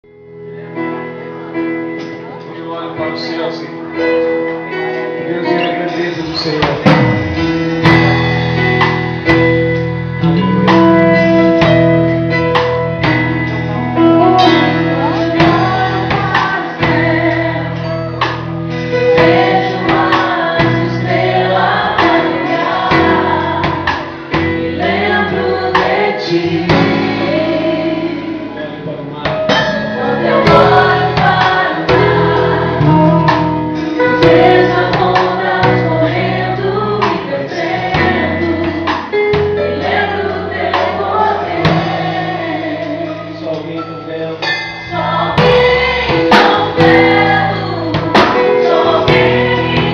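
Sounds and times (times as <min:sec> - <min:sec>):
instrumental backing with beat: 0:01.6 - 0:49.9
group singing gospel song: 0:05.5 - 0:28.8, 0:29.5 - 0:49.9.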